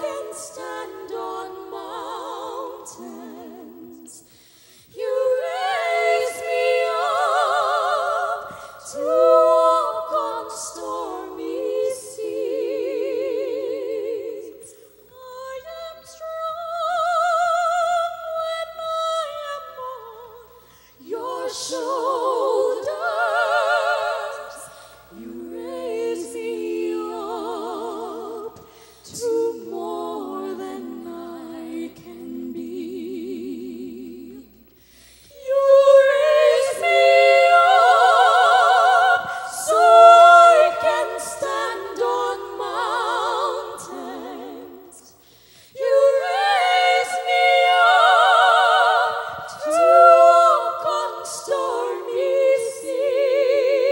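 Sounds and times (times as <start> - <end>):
women singing in harmony: 0.0 - 53.9.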